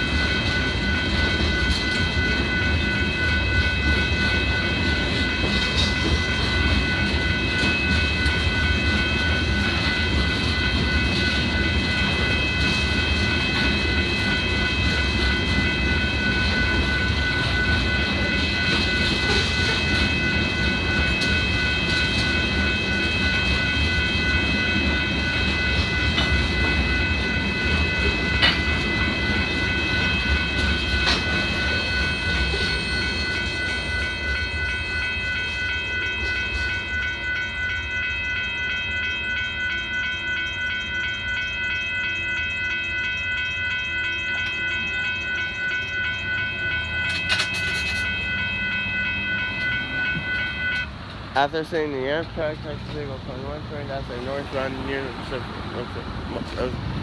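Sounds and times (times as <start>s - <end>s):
railroad crossing bell ringing: 0.0s - 57.0s
train clickety-clack: 0.0s - 57.0s.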